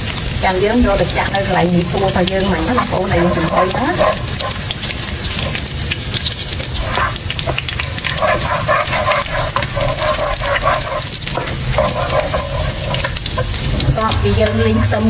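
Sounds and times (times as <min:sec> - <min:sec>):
garlic sizzling in hot oil: 0:00.0 - 0:15.0
spatula scraping pan: 0:01.3 - 0:15.0.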